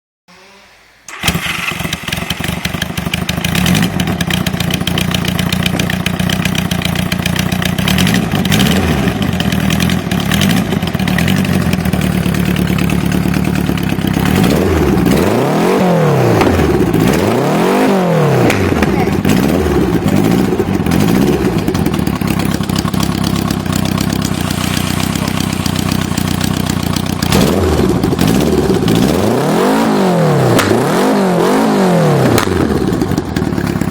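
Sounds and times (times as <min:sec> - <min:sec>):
motorcycle throttle blips: 0:00.3 - 0:33.9
motorcycle engine idling: 0:01.1 - 0:29.3, 0:32.3 - 0:33.9
motorcycle engine cranking: 0:01.1 - 0:31.6, 0:32.2 - 0:33.9.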